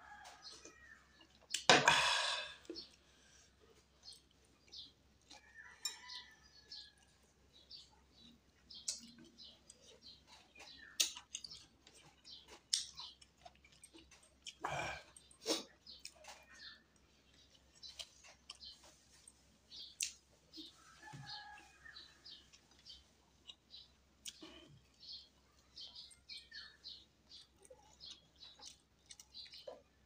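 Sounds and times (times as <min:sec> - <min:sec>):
chewing and smacking: 0:00.0 - 0:01.7, 0:02.6 - 0:30.0.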